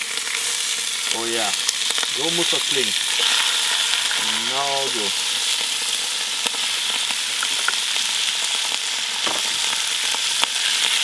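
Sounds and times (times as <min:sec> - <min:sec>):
meat sizzling in butter: 0:00.0 - 0:11.0.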